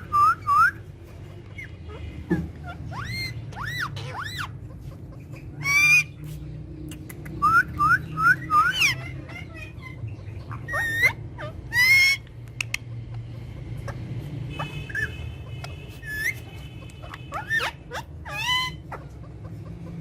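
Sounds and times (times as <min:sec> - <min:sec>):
parrots squawking and whistling: 0:00.0 - 0:12.8, 0:13.5 - 0:20.0.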